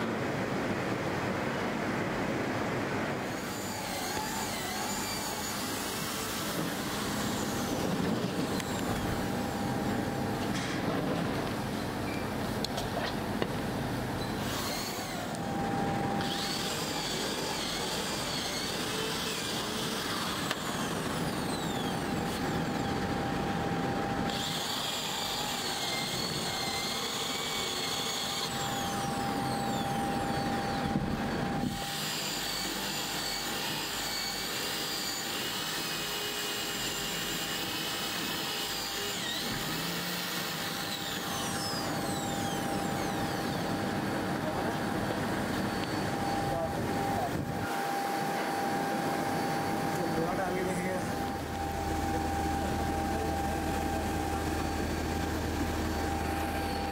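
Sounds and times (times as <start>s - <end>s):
electric drill whining: 3.3s - 10.6s, 14.2s - 56.9s.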